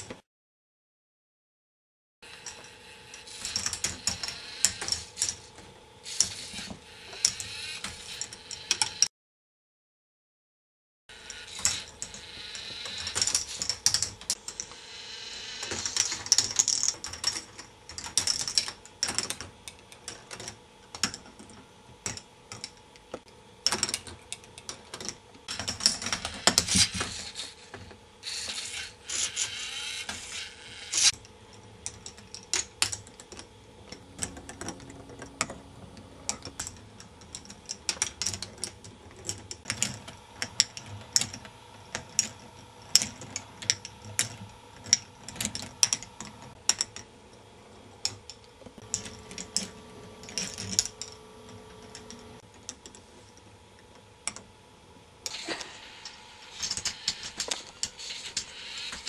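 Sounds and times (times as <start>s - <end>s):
faint steady hum: 11.1s - 59.0s.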